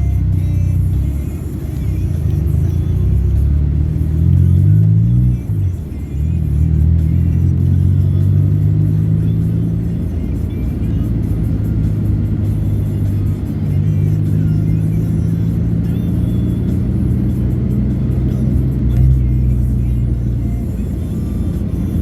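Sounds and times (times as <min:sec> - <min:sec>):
car engine and road noise: 0:00.0 - 0:22.0
music with heavy bass: 0:00.0 - 0:22.0.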